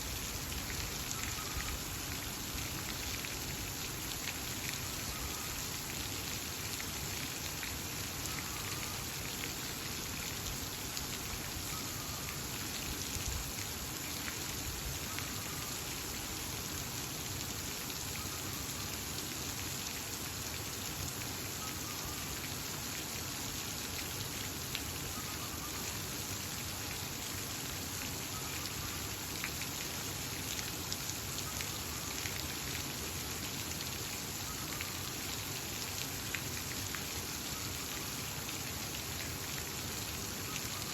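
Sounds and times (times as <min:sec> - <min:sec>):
steady water noise: 0:00.0 - 0:40.9.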